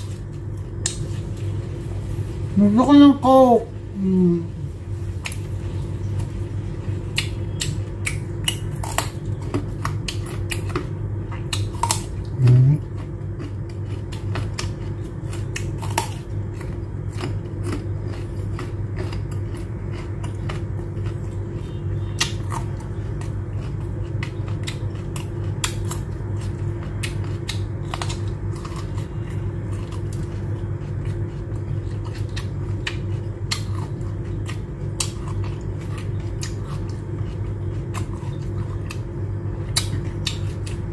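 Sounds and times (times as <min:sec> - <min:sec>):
person chewing crunchy food: 0:00.0 - 0:02.4, 0:04.5 - 0:40.9
steady low hum: 0:00.0 - 0:40.9.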